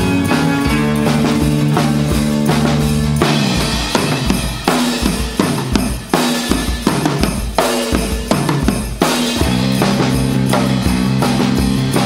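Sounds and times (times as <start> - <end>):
drum kit kick and snare: 0.0 - 12.0
rock band sustained notes: 0.0 - 12.0.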